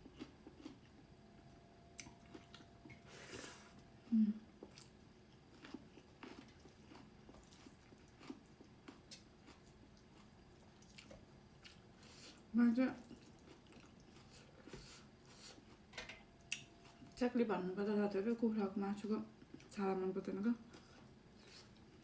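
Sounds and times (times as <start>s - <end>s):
soft chewing: 0.0s - 17.3s, 19.1s - 22.0s.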